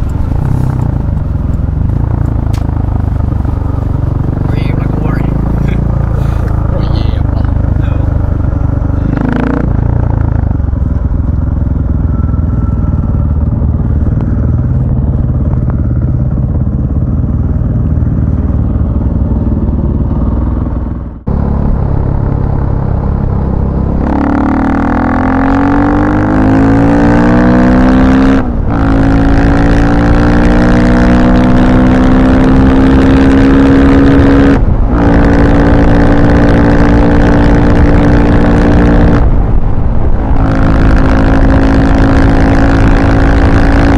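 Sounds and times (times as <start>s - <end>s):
vehicle engine accelerating: 0.0s - 43.9s.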